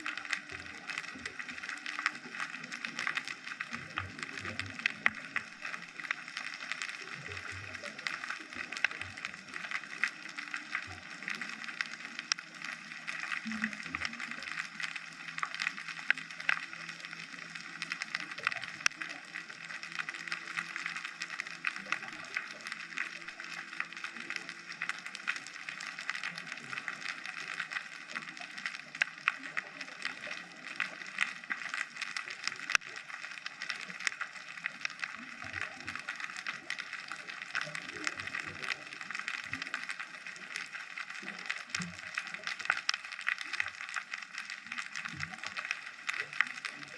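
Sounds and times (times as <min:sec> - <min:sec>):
underwater crackle of clicks: 0:00.0 - 0:46.9.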